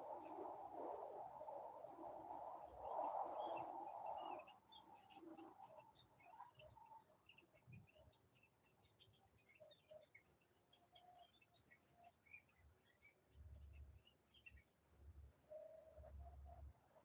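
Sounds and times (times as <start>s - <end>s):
faint bird chirps: 2.8s - 17.0s.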